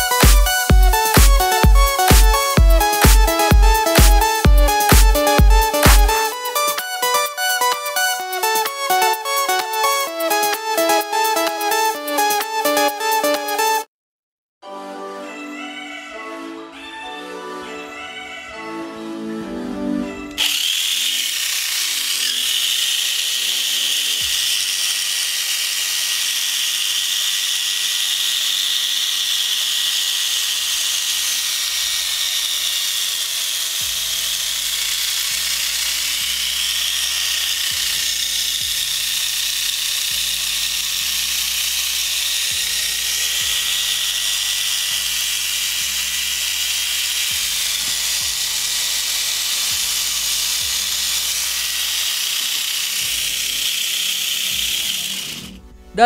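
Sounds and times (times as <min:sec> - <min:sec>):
small electric motor whining: 0:00.0 - 0:13.9, 0:20.2 - 0:55.7.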